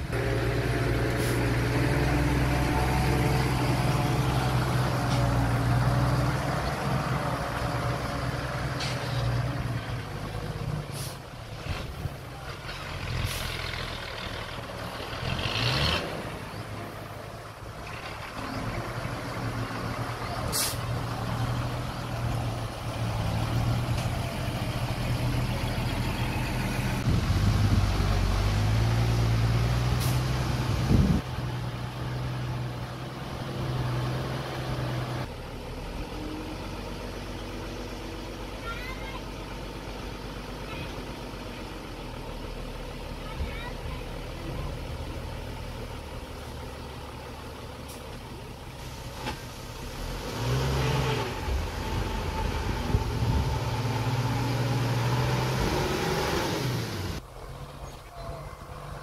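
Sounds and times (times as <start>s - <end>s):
heavy diesel engine running: 0.0s - 50.2s.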